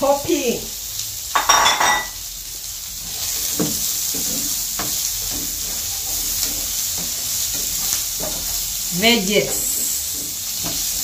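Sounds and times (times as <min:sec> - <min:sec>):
vegetables sizzling in frying pan: 0:00.0 - 0:11.0.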